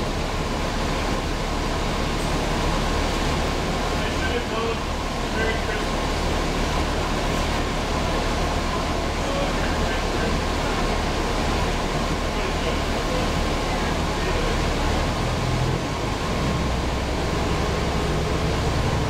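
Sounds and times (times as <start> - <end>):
bus diesel engine droning: 0.0 - 19.0
rush of cabin noise: 0.0 - 19.0
thin steady whine: 0.0 - 19.0.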